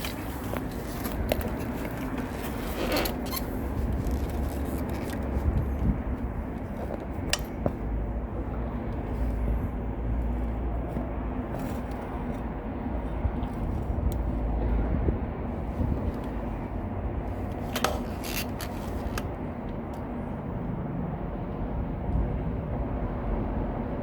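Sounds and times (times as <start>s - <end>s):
low ambient rumble: 0.0s - 24.0s.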